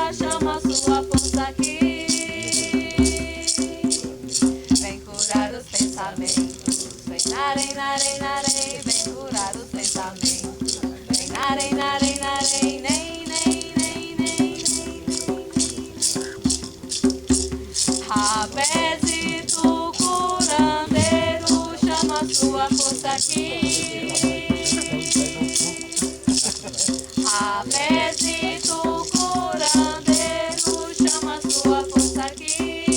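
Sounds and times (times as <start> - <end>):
person chanting: 0.0 - 16.7, 17.7 - 32.9
hand rattle shaken: 0.0 - 32.9.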